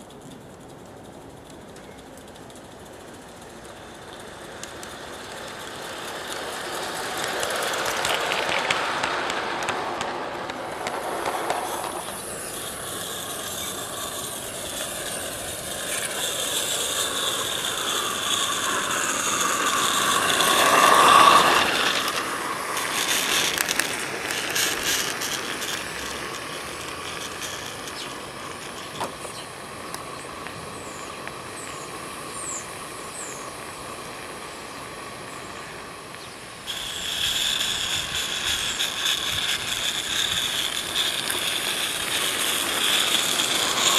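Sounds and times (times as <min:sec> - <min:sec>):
steam locomotive chuffing: 0:00.0 - 0:43.9.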